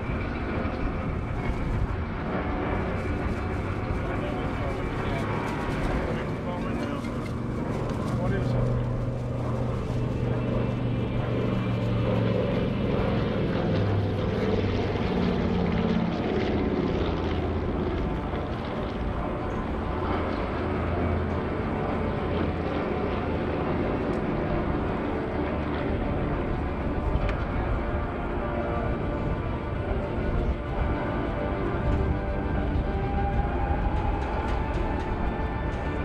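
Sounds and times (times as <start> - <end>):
propeller plane engine drone: 0.0 - 36.0.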